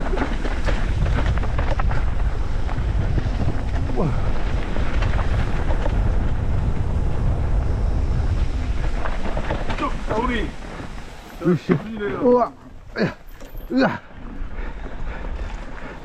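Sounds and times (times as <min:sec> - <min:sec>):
mountain bike rumble on trail: 0:00.0 - 0:16.0
wind buffeting microphone: 0:00.0 - 0:16.0.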